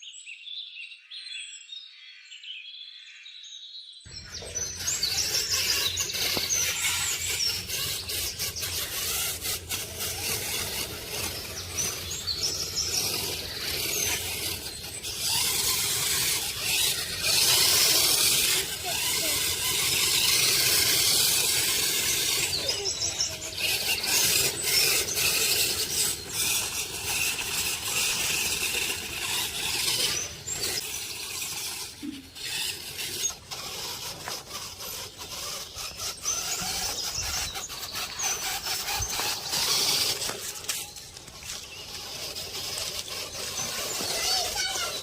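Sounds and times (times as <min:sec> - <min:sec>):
rc car wheels and motors scraping: 0:04.1 - 0:45.0.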